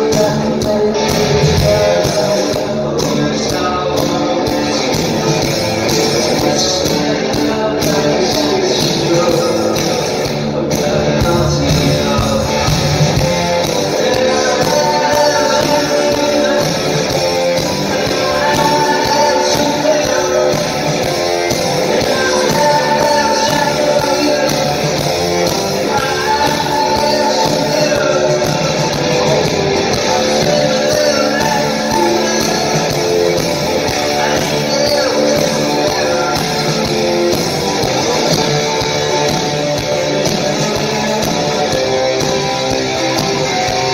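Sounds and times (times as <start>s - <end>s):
electric guitar: 0.0s - 43.9s
live rock band playing: 0.0s - 43.9s
person singing: 0.0s - 43.9s.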